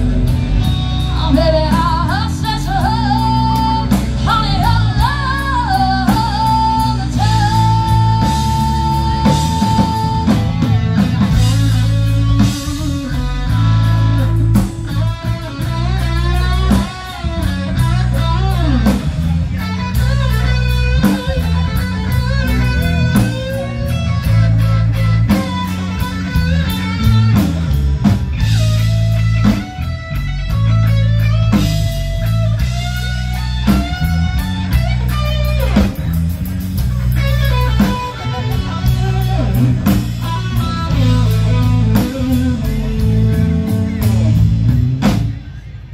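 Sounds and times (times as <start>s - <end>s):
bass and drums: 0.0s - 45.9s
electric guitar lead with bent notes: 0.0s - 45.9s.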